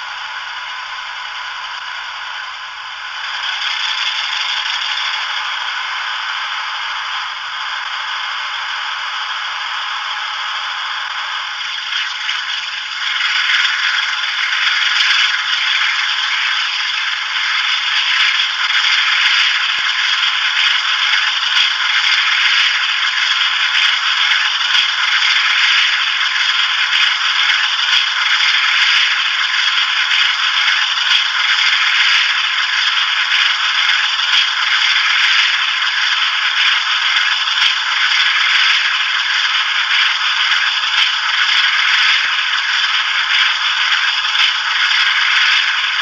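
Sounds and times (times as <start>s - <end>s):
model locomotive diesel engine sound: 0.0s - 46.0s.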